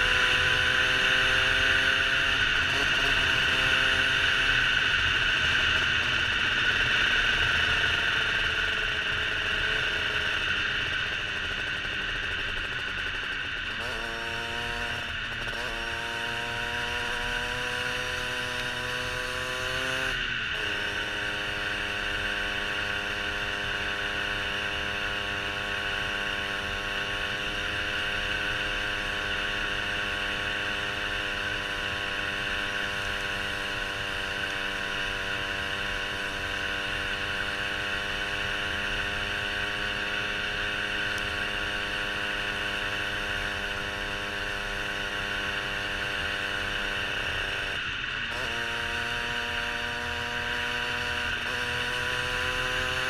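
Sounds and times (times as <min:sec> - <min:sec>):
motorcycle engine revving: 0:00.0 - 0:53.0
wind and road hiss: 0:00.0 - 0:53.0.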